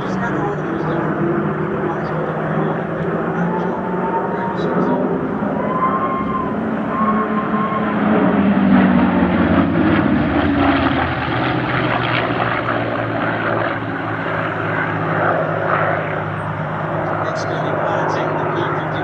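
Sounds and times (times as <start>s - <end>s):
propeller aircraft engines: 0.0s - 19.0s.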